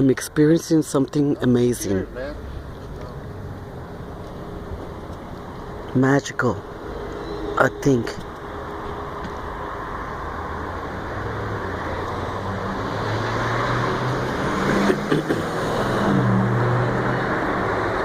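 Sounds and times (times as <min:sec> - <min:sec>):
motor vehicle engine rumbling: 0:00.0 - 0:18.0.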